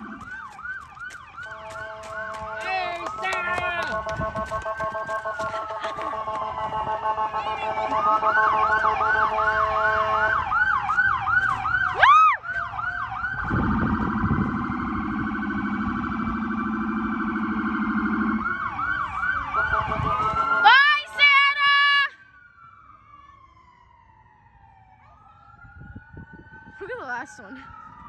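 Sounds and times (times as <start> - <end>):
emergency sirens wailing and yelping: 0.0 - 28.0
rising siren whoop: 0.0 - 28.0.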